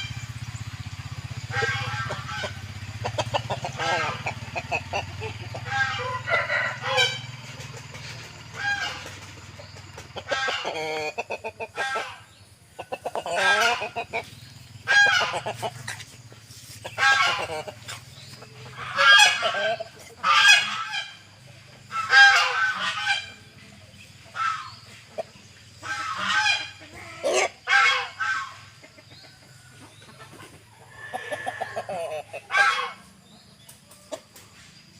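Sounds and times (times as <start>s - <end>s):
chickens calling: 0.0s - 34.9s.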